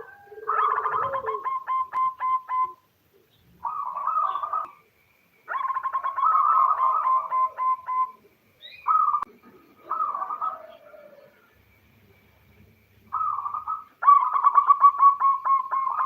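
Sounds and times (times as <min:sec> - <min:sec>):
dove cooing: 0:00.0 - 0:04.8, 0:05.5 - 0:11.6, 0:13.0 - 0:16.0.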